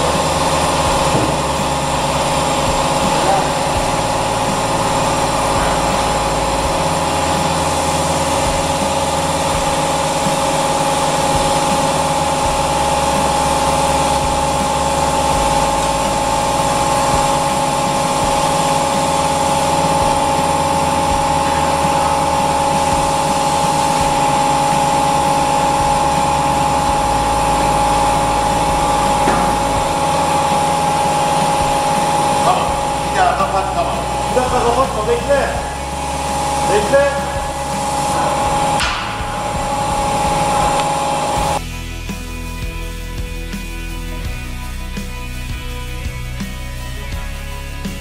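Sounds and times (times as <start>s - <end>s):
machinery droning: 0.0s - 42.3s
steady high hum: 0.0s - 42.7s.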